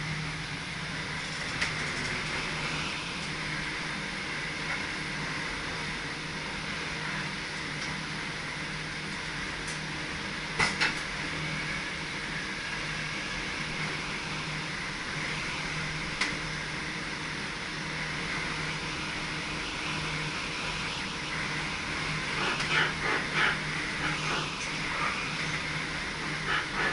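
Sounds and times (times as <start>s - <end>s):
train cab hum and hiss: 0.0s - 26.9s.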